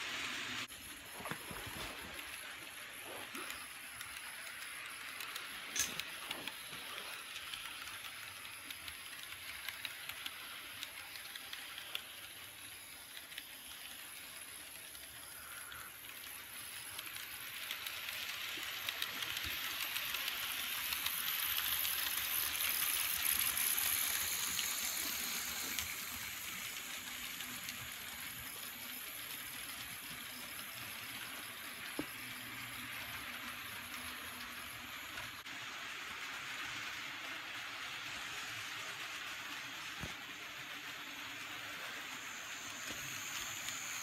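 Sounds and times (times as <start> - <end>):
model train rolling on track: 0.0 - 44.0.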